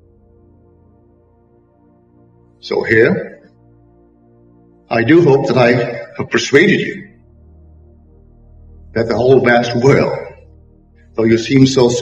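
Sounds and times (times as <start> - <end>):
soft ambient music chords: 0.0 - 12.0.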